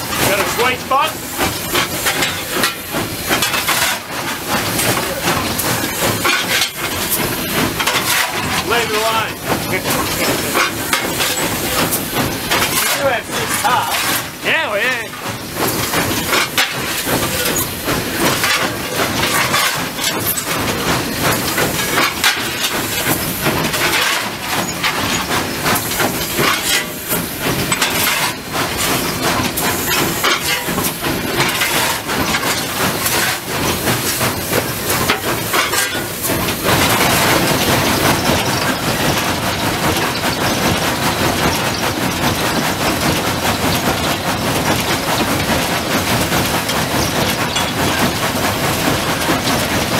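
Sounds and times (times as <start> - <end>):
steam hissing: 0.0 - 40.4
locomotive clattering and knocking: 0.0 - 49.9.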